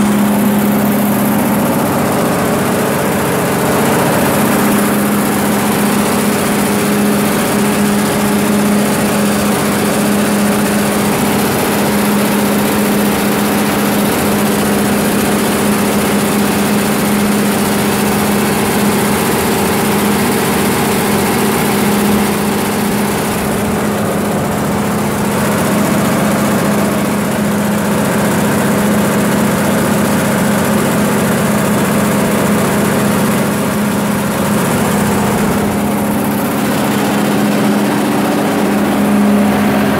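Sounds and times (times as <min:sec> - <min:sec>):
diesel generator running: 0:00.0 - 0:39.9.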